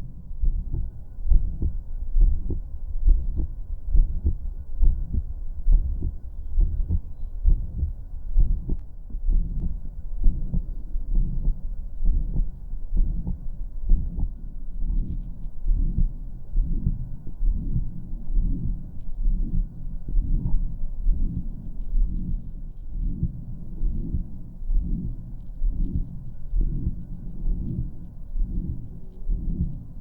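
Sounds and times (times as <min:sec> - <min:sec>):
heartbeat through stethoscope: 0:00.0 - 0:30.0
heart murmur: 0:00.3 - 0:30.0.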